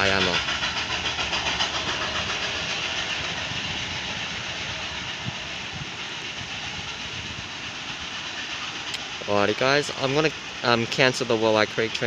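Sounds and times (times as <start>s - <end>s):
steam train rushing noise: 0.0s - 12.0s.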